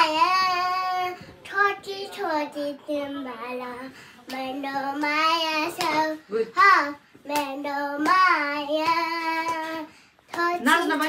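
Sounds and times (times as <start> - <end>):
girl singing: 0.0 - 10.8.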